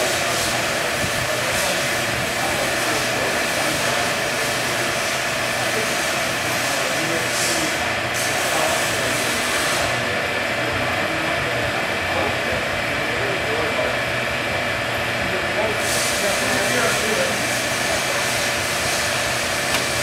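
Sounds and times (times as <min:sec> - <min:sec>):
hydraulic test machine hum and hiss: 0:00.0 - 0:20.0.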